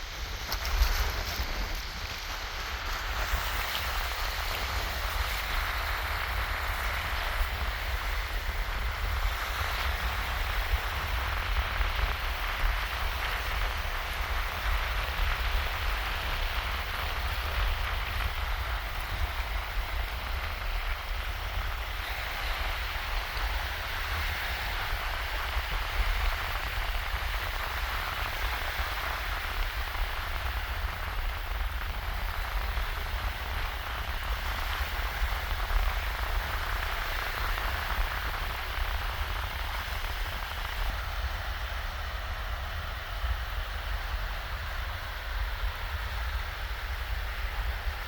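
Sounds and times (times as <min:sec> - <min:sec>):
low surf rumble: 0:00.0 - 0:48.0
small waves washing on sand: 0:00.0 - 0:48.0.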